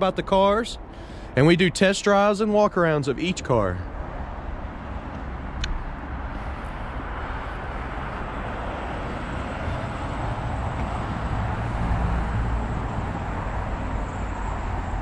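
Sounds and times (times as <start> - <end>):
low rumbling outdoor noise: 0.0 - 15.0.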